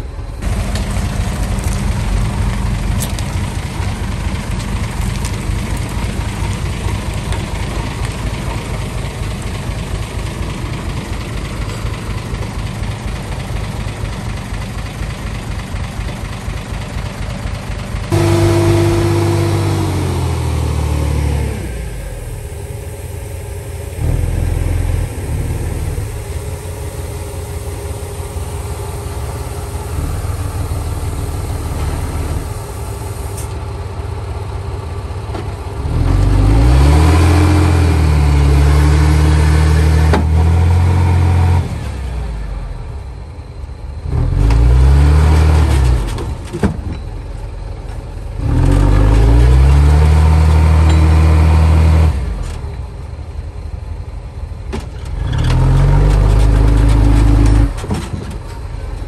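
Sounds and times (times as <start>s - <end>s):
bulldozer diesel engine revving: 0.0s - 46.5s, 47.4s - 54.0s, 54.6s - 59.0s.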